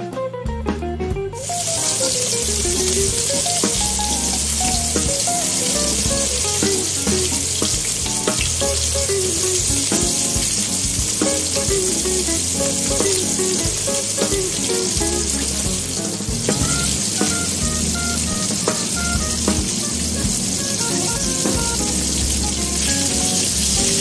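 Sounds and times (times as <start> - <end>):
guitar music: 0.0 - 24.0
meat sizzling in a frying pan: 1.4 - 19.0, 19.7 - 24.0.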